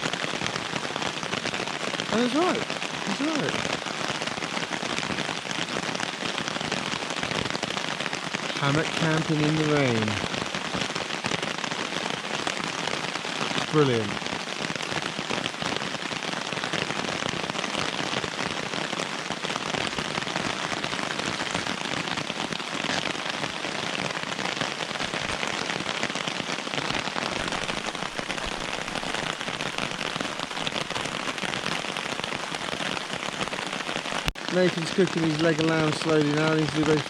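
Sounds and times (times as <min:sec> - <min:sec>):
heavy rain on tarp: 0:00.0 - 0:37.0.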